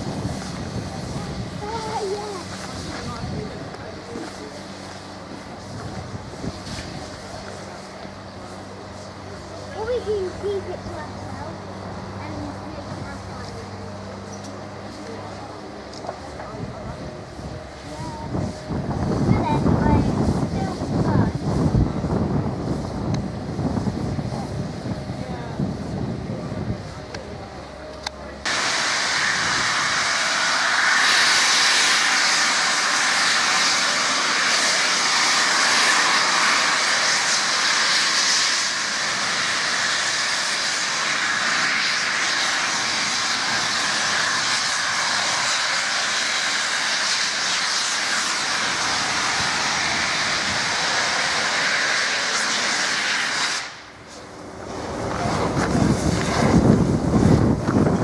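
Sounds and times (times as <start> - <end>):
steam locomotive venting steam: 0.0 - 27.8, 28.4 - 58.0.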